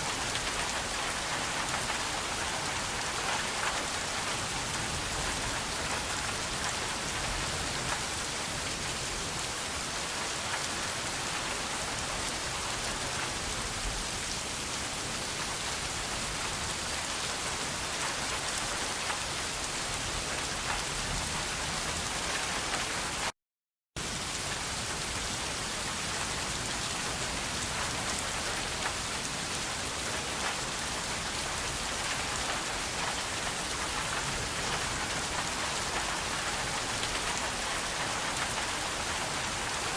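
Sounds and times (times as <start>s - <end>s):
steady rain falling: 0.0s - 23.3s, 24.0s - 39.9s.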